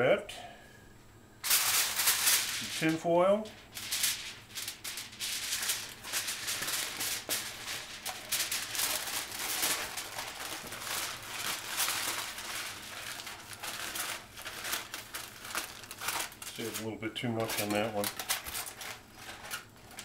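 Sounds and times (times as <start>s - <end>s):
aluminium foil crinkling: 1.4s - 20.0s.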